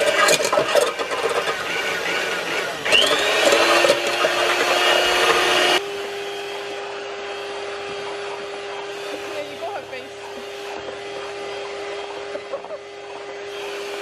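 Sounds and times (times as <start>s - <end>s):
electric hand mixer whisking: 0.0s - 14.0s.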